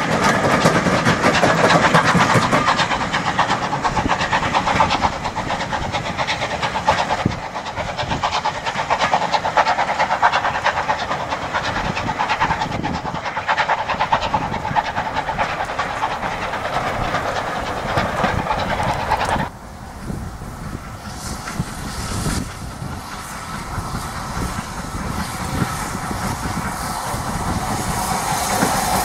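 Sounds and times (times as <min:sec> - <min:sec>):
steam train hissing and clattering: 0:00.0 - 0:29.0.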